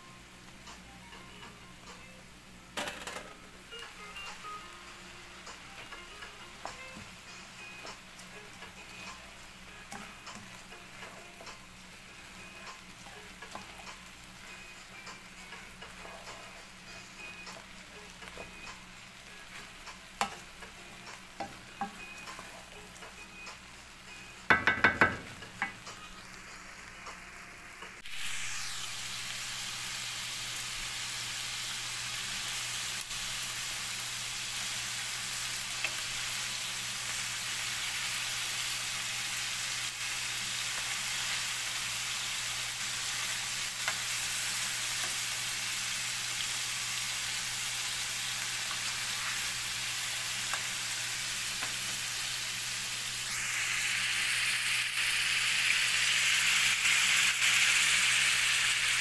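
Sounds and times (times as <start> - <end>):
meat sizzling in oil: 3.4 - 59.0.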